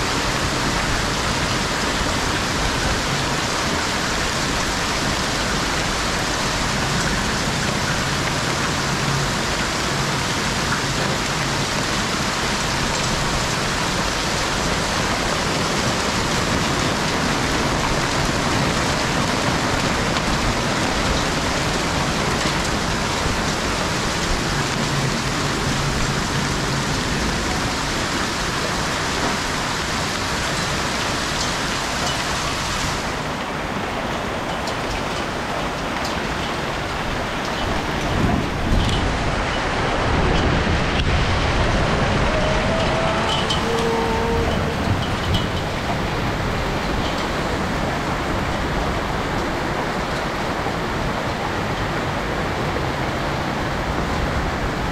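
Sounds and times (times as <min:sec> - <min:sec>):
hail pattering on roofs: 0:00.0 - 0:54.9.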